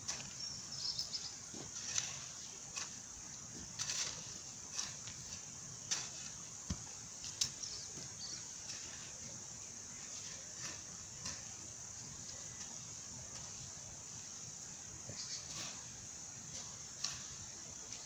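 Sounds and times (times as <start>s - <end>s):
hoe scraping soil: 0.0s - 18.0s.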